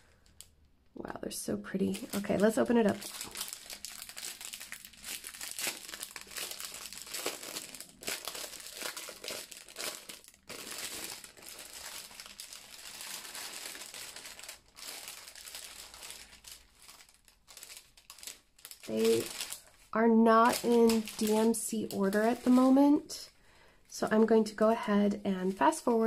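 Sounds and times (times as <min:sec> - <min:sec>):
plastic packaging crinkling: 0:01.7 - 0:22.9.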